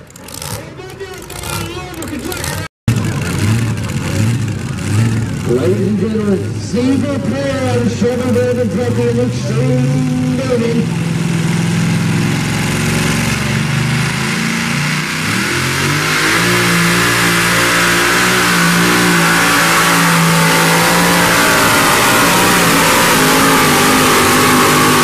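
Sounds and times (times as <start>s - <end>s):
supercharged truck engine revving: 0.0s - 25.0s.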